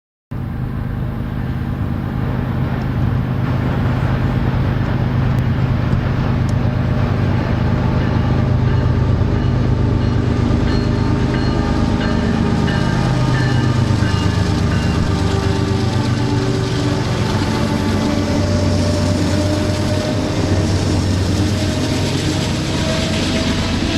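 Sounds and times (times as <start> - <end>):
diesel locomotive engine drone: 0.3 - 23.9.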